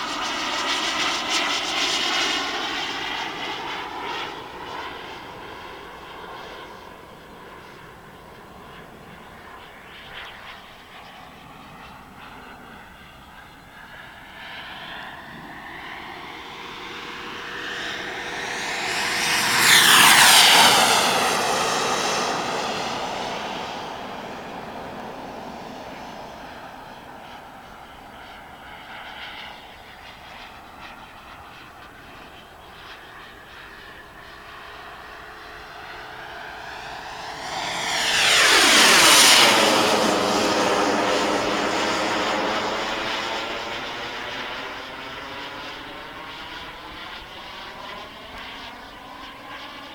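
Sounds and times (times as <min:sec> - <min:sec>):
model jet turbine whine: 0:00.0 - 0:49.9.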